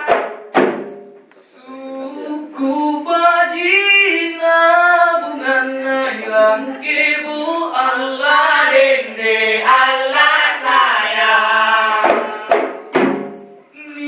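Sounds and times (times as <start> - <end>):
women singing together: 1.6 - 13.0.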